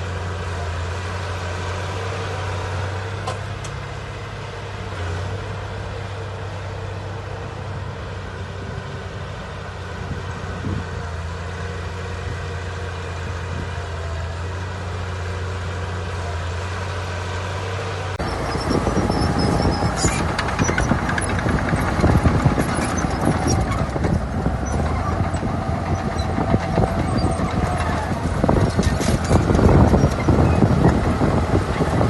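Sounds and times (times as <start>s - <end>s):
heavy diesel engine droning: 0.0s - 32.0s.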